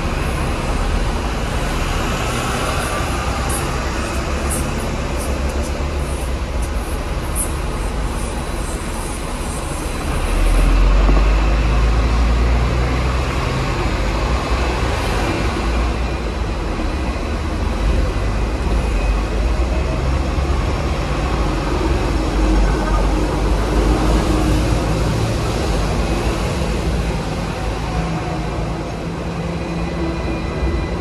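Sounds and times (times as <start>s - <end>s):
tram wheels rumbling on rail: 0.0s - 31.0s.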